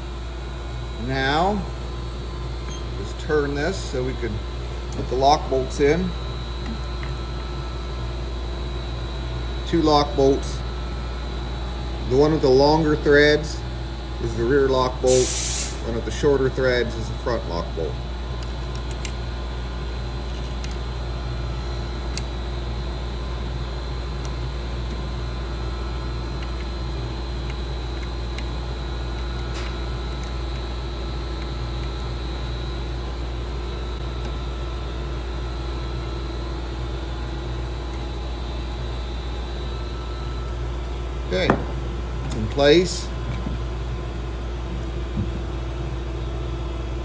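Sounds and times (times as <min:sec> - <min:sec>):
mechanical hum of equipment: 0:00.0 - 0:47.0.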